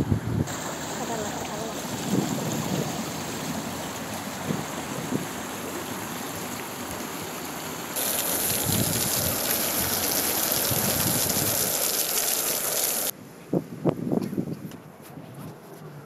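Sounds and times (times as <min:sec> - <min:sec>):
fountain water jets splashing: 0:00.0 - 0:13.1
water jet splashing on wet paving: 0:00.0 - 0:13.2.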